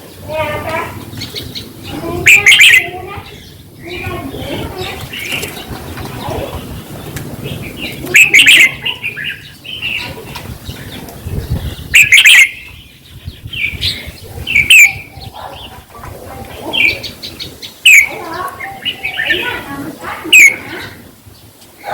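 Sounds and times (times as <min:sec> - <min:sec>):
bulbul singing: 0:01.0 - 0:15.8, 0:16.6 - 0:19.6, 0:20.2 - 0:21.4.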